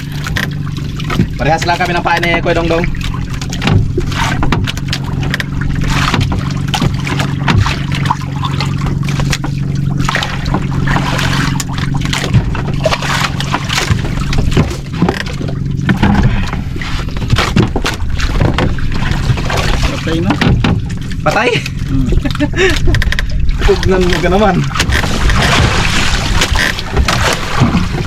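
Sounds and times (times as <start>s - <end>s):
boat engine running: 0.0s - 28.0s
water splashing: 0.0s - 28.0s.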